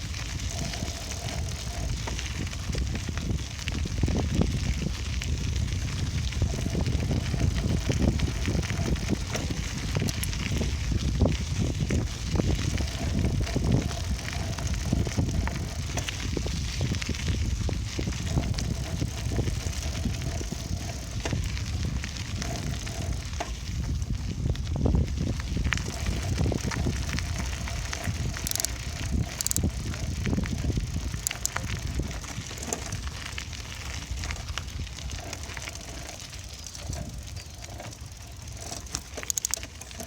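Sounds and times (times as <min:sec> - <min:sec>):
bicycle tyres rumbling: 0:00.0 - 0:40.0
crackling from road surface: 0:00.0 - 0:40.0
wind buffeting microphone: 0:00.0 - 0:40.0.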